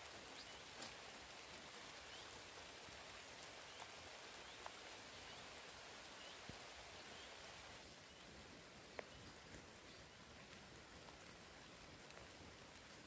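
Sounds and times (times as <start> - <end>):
soft outdoor hiss: 0.0 - 13.0.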